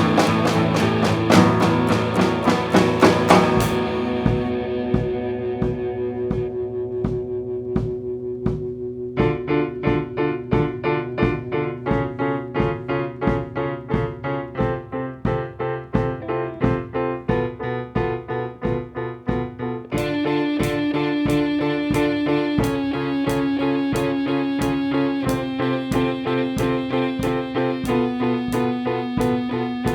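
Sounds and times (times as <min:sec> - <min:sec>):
instrumental music with steady beat: 0:00.0 - 0:29.9
repeated keyboard chords: 0:00.0 - 0:29.9.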